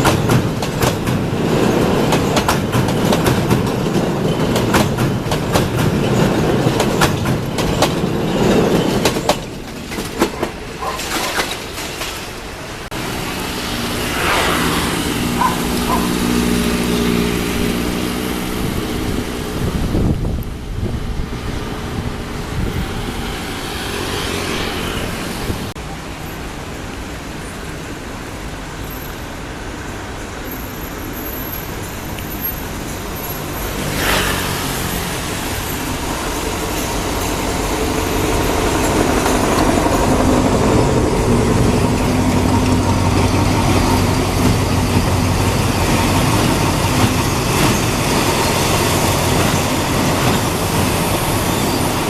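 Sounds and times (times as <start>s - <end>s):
diesel train engine hum: 0.0s - 52.0s
traffic noise: 0.0s - 52.0s.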